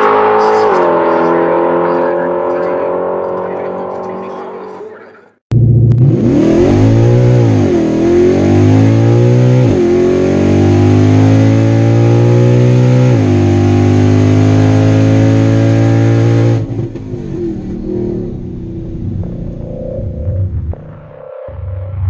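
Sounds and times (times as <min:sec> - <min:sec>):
car engine at full throttle: 0:00.0 - 0:22.0.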